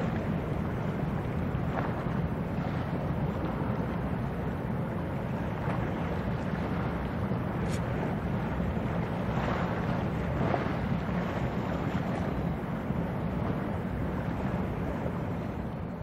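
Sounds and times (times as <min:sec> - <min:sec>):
choppy sea water: 0:00.0 - 0:16.0
wash of passing ship: 0:00.0 - 0:16.0
wind buffeting microphone: 0:00.0 - 0:16.0.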